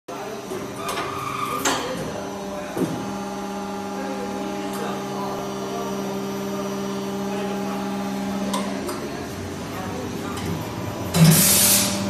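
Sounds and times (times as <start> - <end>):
die casting machine humming: 0.1 - 12.0.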